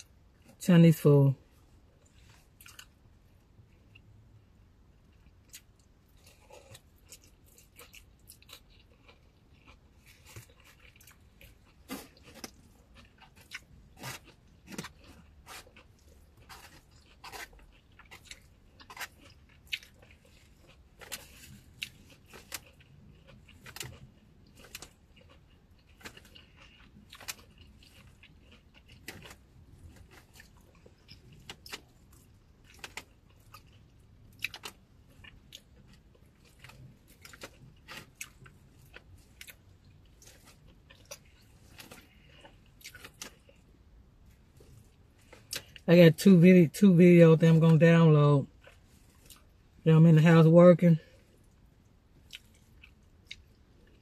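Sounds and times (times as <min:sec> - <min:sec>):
person chewing food: 0:01.5 - 0:45.8, 0:48.4 - 0:49.8, 0:51.0 - 0:54.0.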